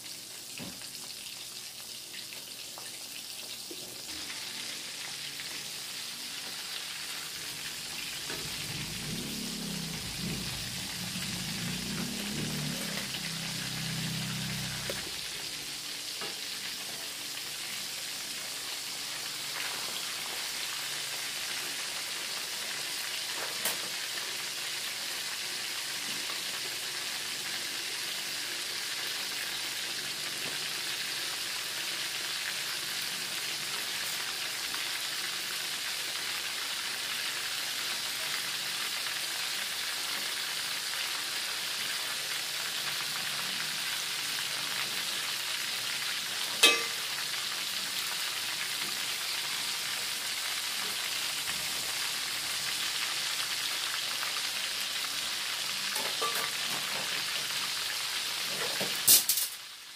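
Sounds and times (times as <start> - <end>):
chicken sizzling in hot oil: 0.0 - 59.9.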